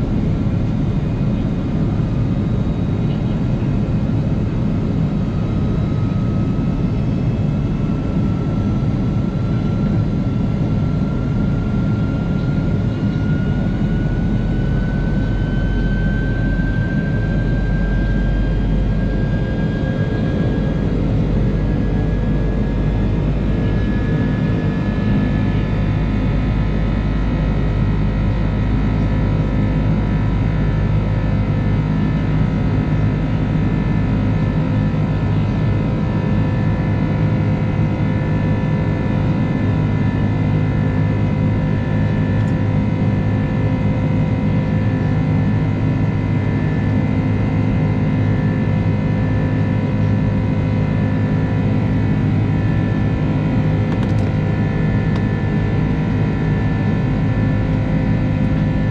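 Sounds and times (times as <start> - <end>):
jet engine drone in cabin: 0.0 - 58.9.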